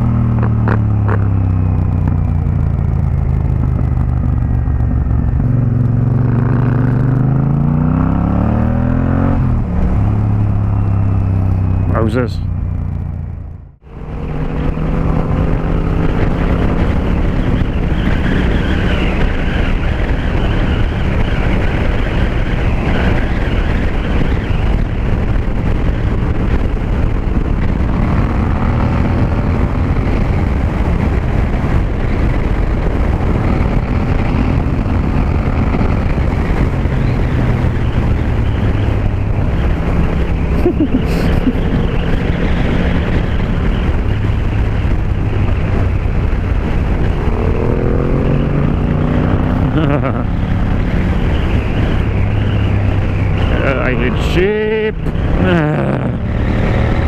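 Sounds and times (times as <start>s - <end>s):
motorcycle engine at road speed: 0.0s - 57.0s
wind rushing on helmet mic: 0.0s - 57.0s.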